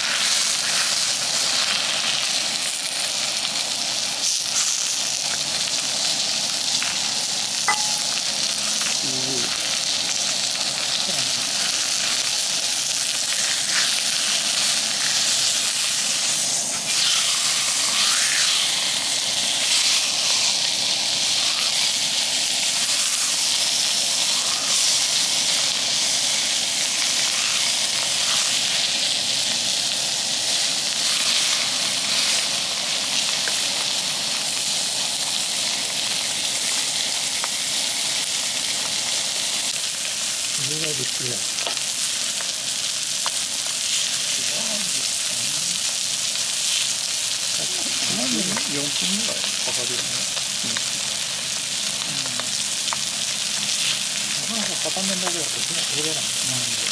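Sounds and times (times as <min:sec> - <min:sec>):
chicken sizzling on a griddle: 0:00.0 - 0:56.9
gas burner running: 0:00.0 - 0:56.9.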